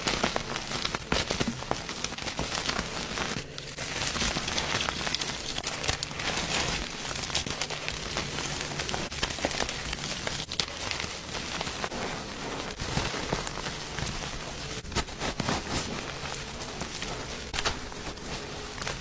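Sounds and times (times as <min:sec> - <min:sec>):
chalk crunching and crackling: 0:00.0 - 0:19.0.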